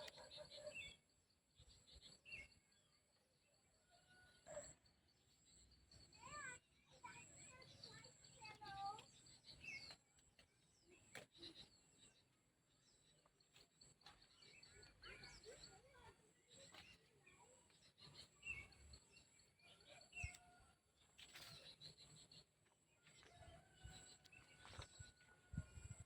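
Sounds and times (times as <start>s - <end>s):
bird chirps: 0.0s - 26.0s.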